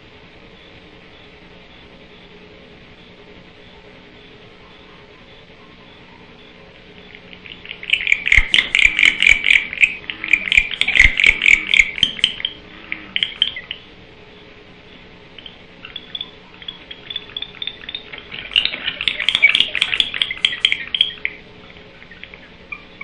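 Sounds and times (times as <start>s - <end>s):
owls chittering calls: 3.6s - 23.0s.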